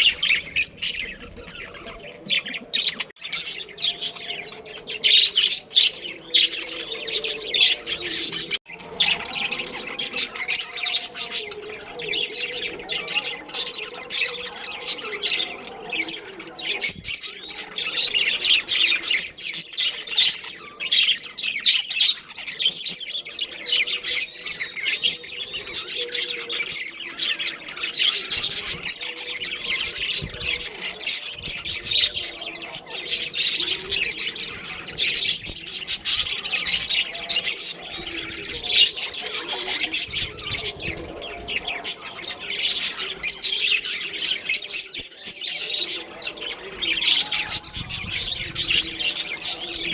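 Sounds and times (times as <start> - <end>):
budgerigars chattering: 0.0 - 49.9.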